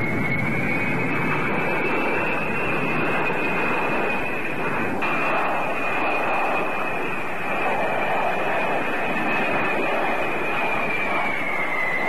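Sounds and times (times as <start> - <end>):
jet engines roaring with high whine: 0.0 - 12.0.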